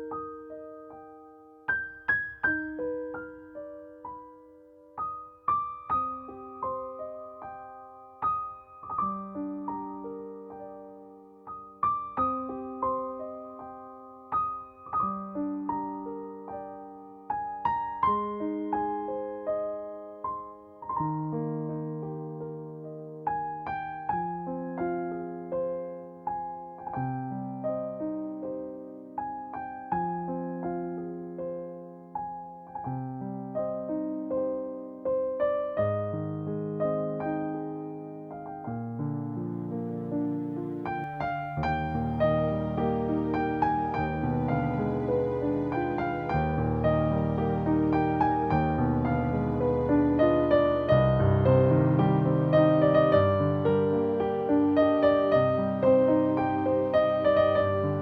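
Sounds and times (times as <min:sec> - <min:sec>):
calm slow piano music: 0:00.0 - 0:58.0.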